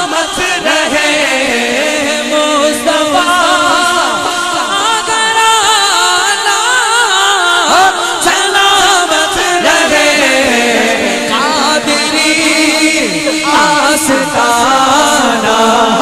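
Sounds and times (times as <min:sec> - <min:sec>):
person singing devotional song: 0:00.0 - 0:16.0.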